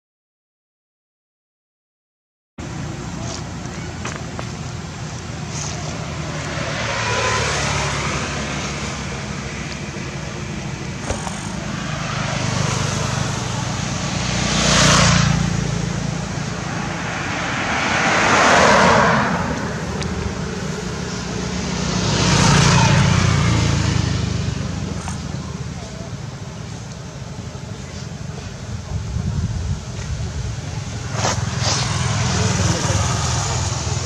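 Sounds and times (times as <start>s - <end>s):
low traffic rumble: 2.6s - 34.0s
vehicles passing by: 2.6s - 34.0s.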